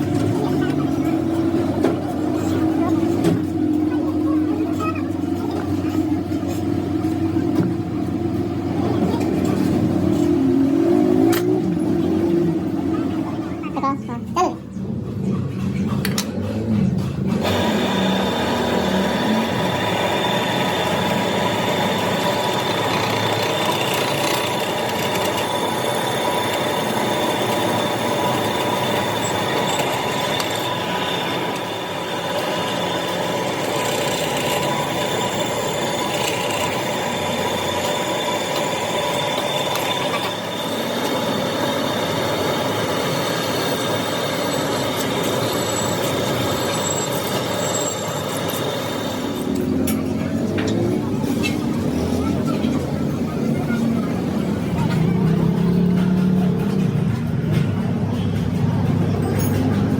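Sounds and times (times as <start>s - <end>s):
machine whining: 0.0s - 59.9s.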